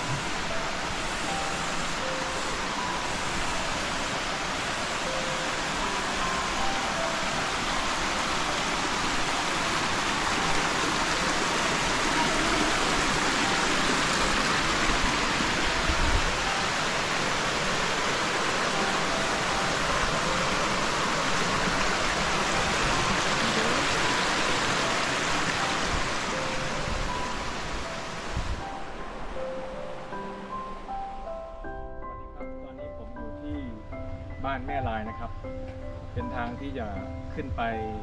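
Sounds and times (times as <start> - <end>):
stream rushing over rocks: 0.0 - 30.9.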